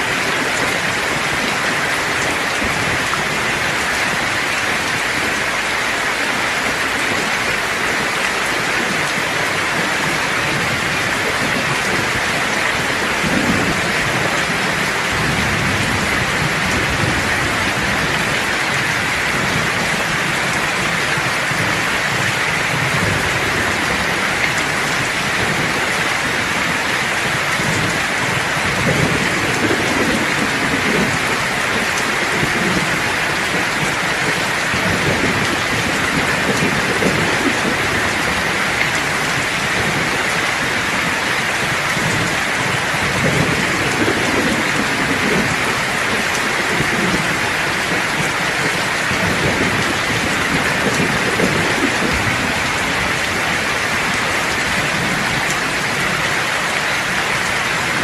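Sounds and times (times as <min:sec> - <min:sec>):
rain hissing and pattering: 0:00.0 - 0:58.0
low thunder rumbling: 0:00.1 - 0:58.0.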